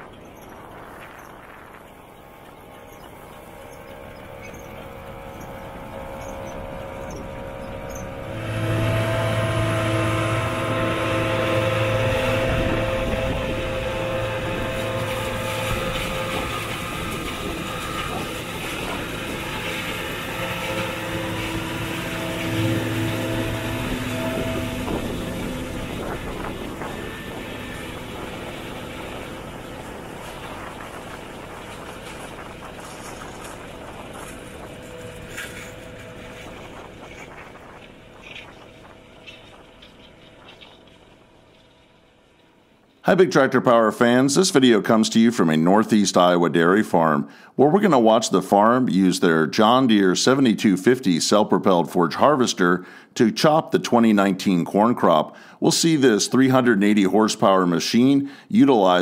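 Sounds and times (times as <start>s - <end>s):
forage harvester machinery drone: 0.0s - 59.0s.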